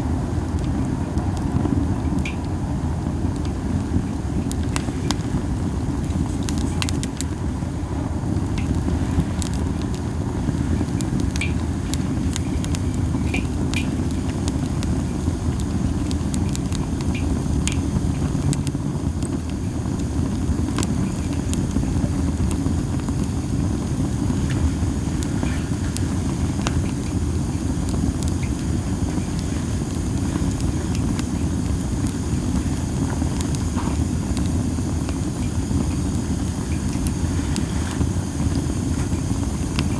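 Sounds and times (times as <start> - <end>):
campfire crackles and pops: 0.0 - 39.9.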